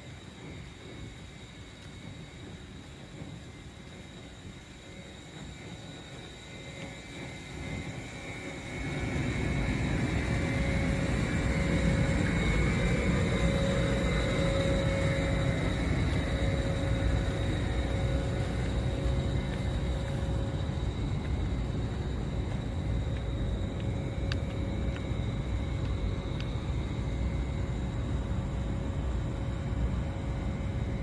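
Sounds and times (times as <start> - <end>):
electric train rumble: 0.0 - 31.0
thin steady whine: 0.0 - 31.0.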